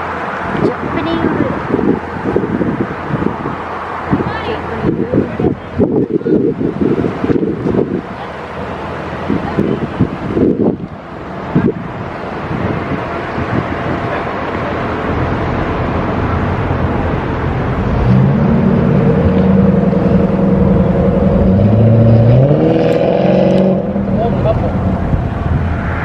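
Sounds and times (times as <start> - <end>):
road and rushing noise: 0.0 - 26.0
vehicle engine hum: 0.0 - 26.0.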